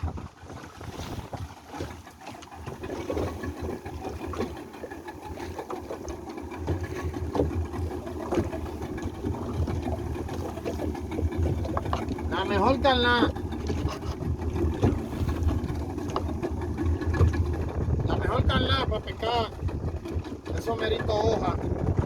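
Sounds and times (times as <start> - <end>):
boat motor idling: 1.2 - 22.0.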